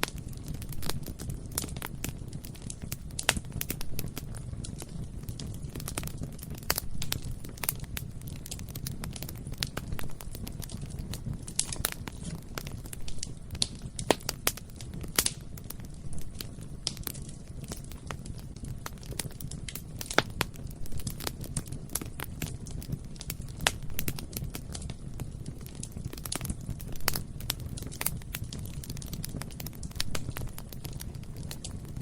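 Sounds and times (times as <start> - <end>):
fire crackling and popping: 0.0 - 32.0
low roar of flames: 0.0 - 32.0.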